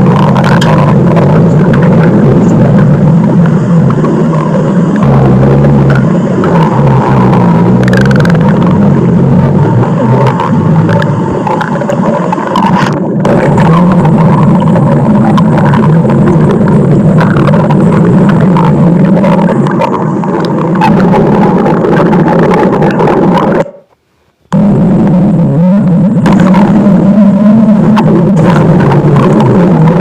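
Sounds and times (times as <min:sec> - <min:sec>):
stomach growling: 0:00.0 - 0:30.0.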